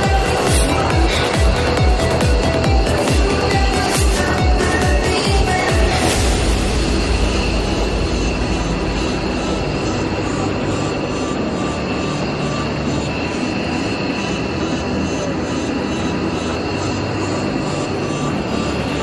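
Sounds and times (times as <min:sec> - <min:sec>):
aircraft engines rushing: 0:00.0 - 0:19.0
faint high whine: 0:00.0 - 0:19.0.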